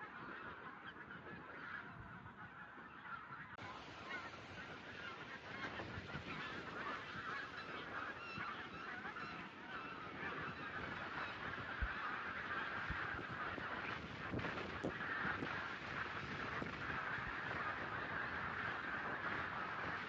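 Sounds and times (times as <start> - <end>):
geese honking in flight: 0.0 - 20.0.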